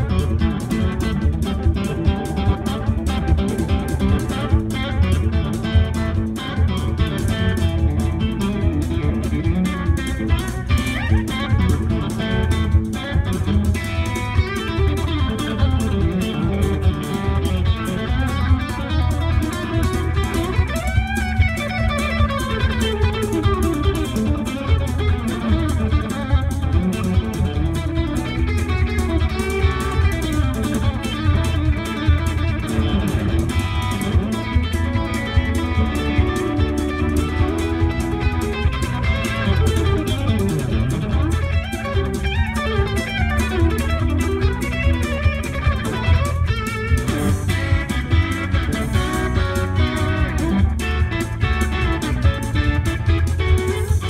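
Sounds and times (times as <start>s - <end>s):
bass: 0.0s - 54.0s
drum beat: 0.0s - 54.0s
electric guitar country picking: 0.0s - 54.0s.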